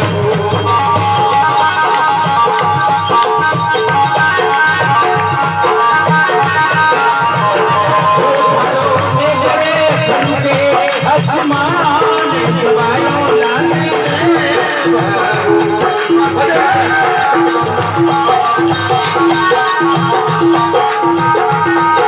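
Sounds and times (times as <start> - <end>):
steady drum beats: 0.0 - 22.0.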